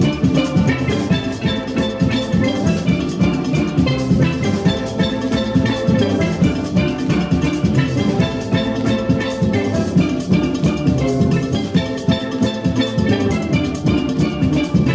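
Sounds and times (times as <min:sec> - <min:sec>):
melody over steady beat: 0:00.0 - 0:14.9.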